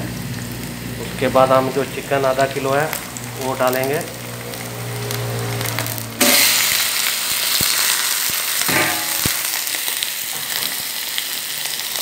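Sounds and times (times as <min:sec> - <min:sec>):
chicken sizzling in hot oil: 0:00.0 - 0:12.0
onions gently sizzling: 0:00.0 - 0:12.0.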